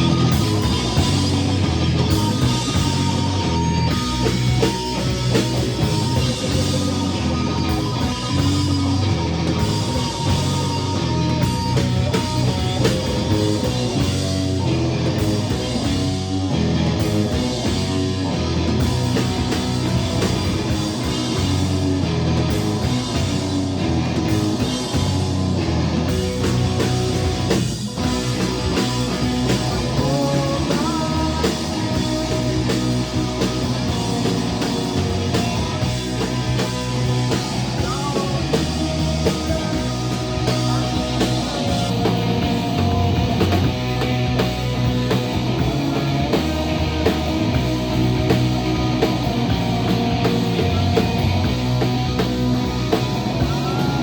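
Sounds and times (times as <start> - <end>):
drum kit: 0.0 - 54.0
electric guitar: 0.0 - 54.0
rock band playing live: 0.0 - 54.0.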